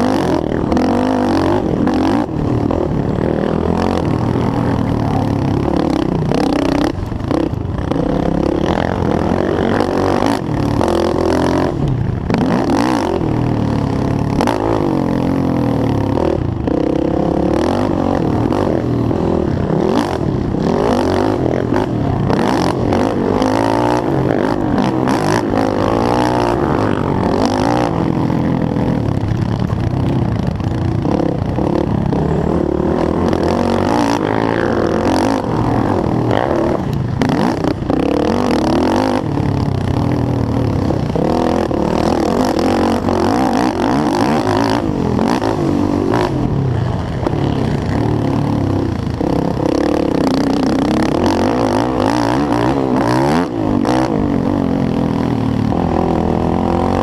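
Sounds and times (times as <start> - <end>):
clatter over rough ground: 0.0 - 57.0
quad bike engine revving: 0.0 - 57.0.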